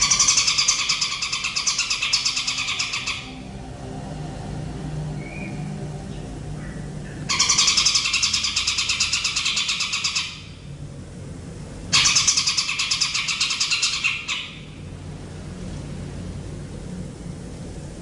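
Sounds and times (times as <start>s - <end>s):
bird buzzy pulsed trills: 0.0s - 15.2s.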